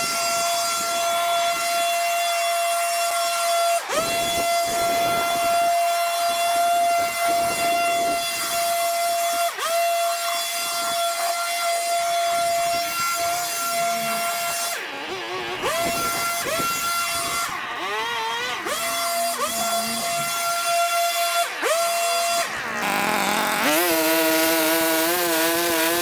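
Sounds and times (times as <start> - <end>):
two-stroke power tool engine whining: 0.0 - 26.0.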